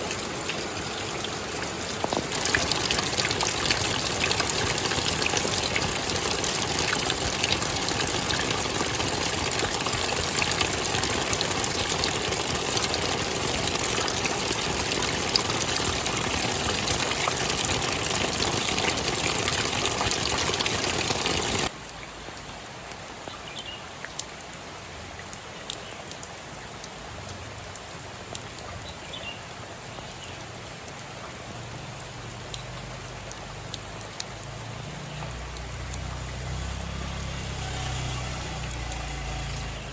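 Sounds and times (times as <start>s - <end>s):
faint water drips: 0.0s - 39.9s
rushing water: 0.0s - 39.9s.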